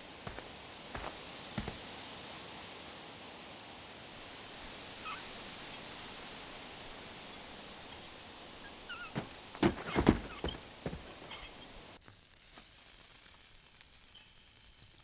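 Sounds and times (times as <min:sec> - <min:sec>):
wind-like outdoor hiss: 0:00.0 - 0:15.0.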